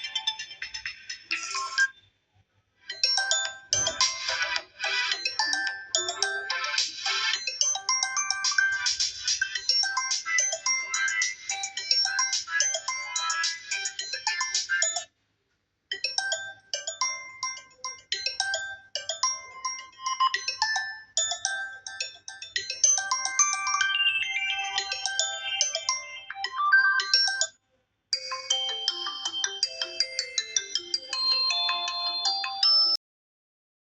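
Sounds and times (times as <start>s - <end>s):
phone ringtone beeping melodies: 0.0s - 2.0s, 2.9s - 15.1s, 15.9s - 27.6s, 28.2s - 33.0s.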